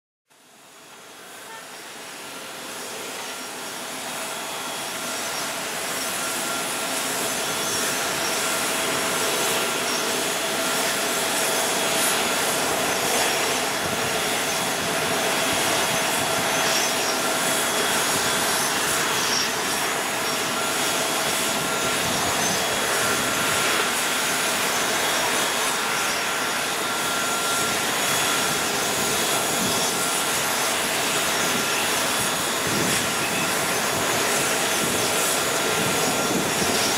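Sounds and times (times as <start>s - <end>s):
jet turbine whine and hiss: 0.3s - 36.9s.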